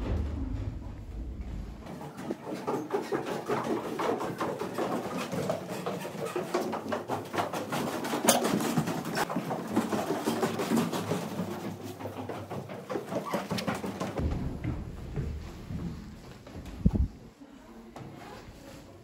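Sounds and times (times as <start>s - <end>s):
knocks and clatter: 0.0s - 17.2s
footsteps: 0.0s - 19.0s.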